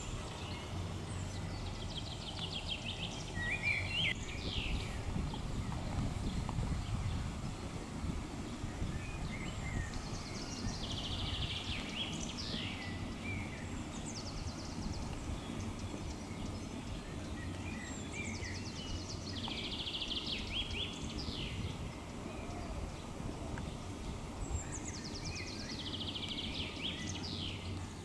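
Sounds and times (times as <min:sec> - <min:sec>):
songbird trilling song: 0:00.0 - 0:27.9
low background noise: 0:00.0 - 0:28.0.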